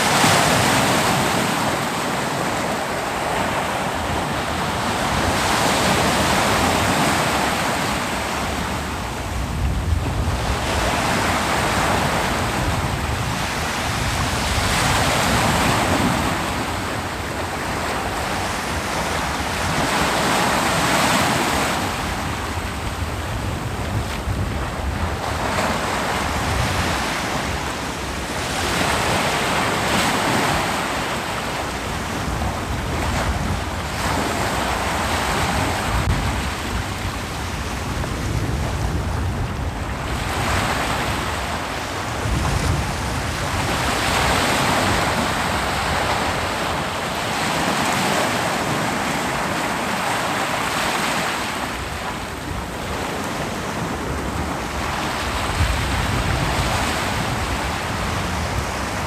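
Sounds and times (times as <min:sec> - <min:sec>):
ocean surf breaking on beach: 0:00.0 - 0:59.0
wind on microphone: 0:00.0 - 0:59.0.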